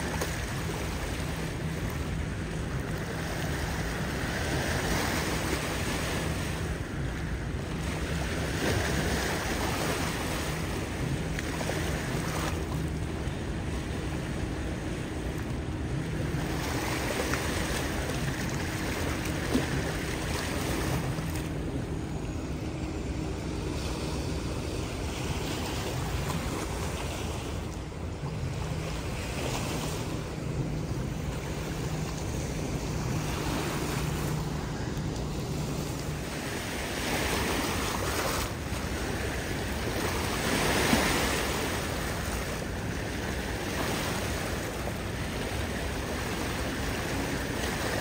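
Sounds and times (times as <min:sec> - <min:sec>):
river rushing: 0:00.0 - 0:48.0.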